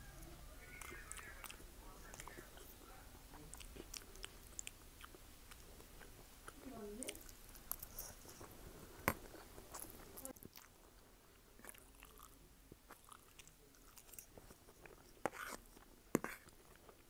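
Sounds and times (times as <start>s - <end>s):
person chewing noodles: 0.1s - 17.0s.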